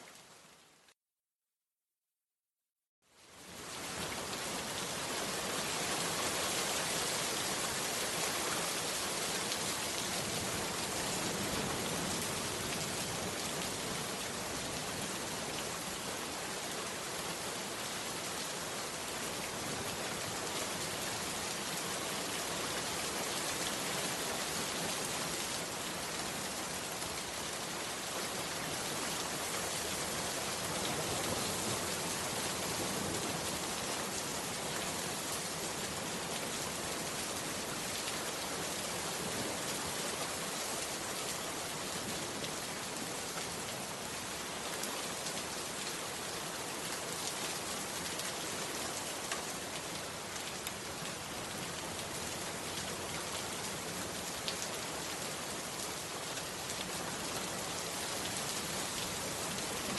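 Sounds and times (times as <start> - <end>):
heavy rain pouring: 3.4 - 59.9.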